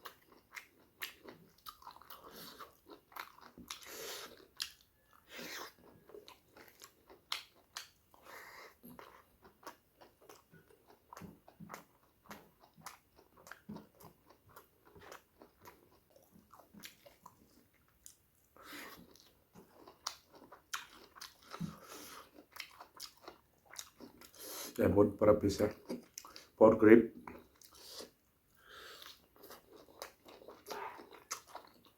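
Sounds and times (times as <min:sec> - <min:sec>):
food crunching: 0:00.0 - 0:24.4, 0:27.2 - 0:31.9
chewing food: 0:00.0 - 0:24.8, 0:25.7 - 0:26.6, 0:27.2 - 0:31.9.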